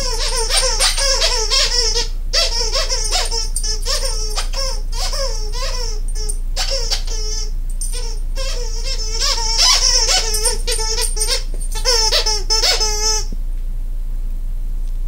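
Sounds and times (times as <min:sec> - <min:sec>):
dog toy squeaking: 0:00.0 - 0:13.3.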